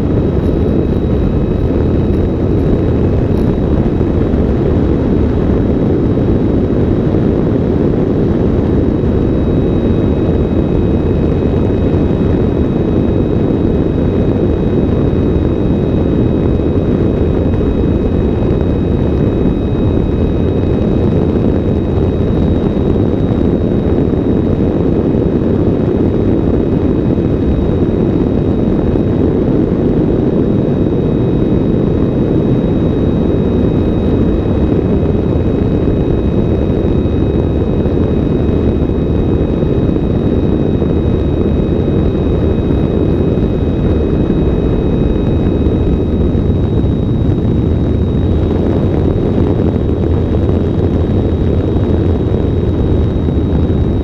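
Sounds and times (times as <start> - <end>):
faint high whine: 0.0 - 54.0
wind and propeller noise: 0.0 - 54.0.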